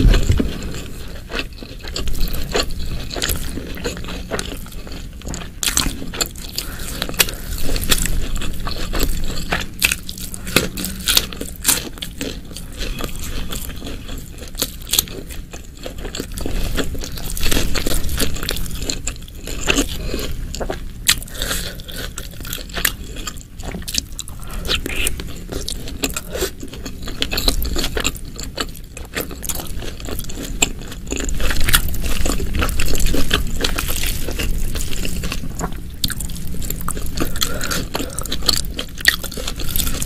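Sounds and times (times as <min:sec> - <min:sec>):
chewing and biting food: 0:00.0 - 0:40.0.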